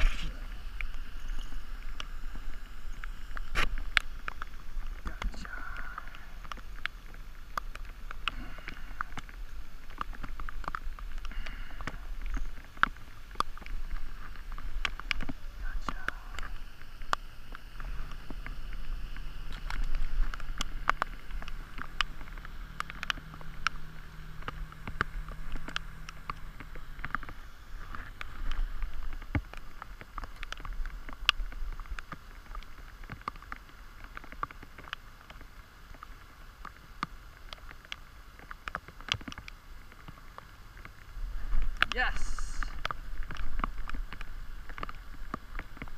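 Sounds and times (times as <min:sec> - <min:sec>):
light clicks and ticks: 0:00.0 - 0:45.9
steady hiss: 0:00.0 - 0:45.9
wind rumbling on microphone: 0:00.0 - 0:45.9.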